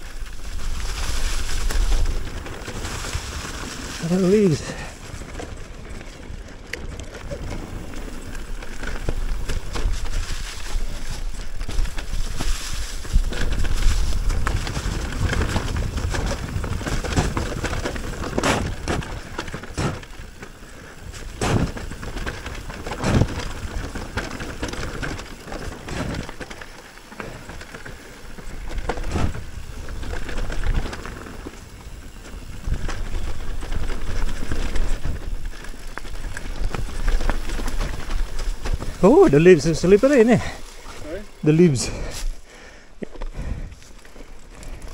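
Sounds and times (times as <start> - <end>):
wind and tyre rumble: 0.0 - 44.9
bike knocking over rough ground: 0.2 - 42.4.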